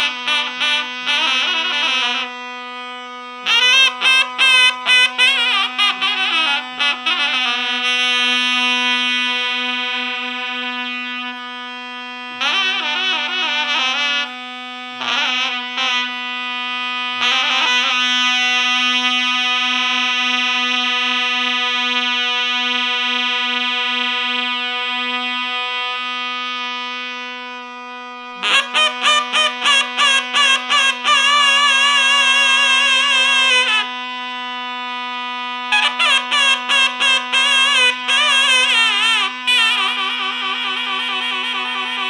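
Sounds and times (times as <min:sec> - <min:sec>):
reed pipe drone: 0:00.0 - 0:42.0.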